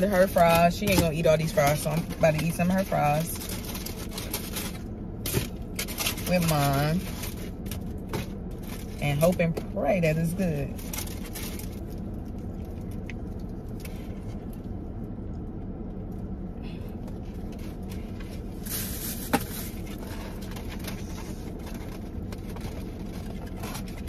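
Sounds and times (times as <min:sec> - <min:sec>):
car engine rumble inside cabin: 0:00.0 - 0:24.0.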